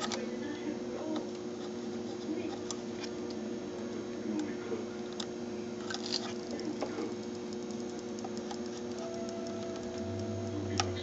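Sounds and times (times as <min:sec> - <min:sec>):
steady electrical hum: 0:00.0 - 0:11.0
solder flux crackling and sizzling: 0:01.4 - 0:11.0.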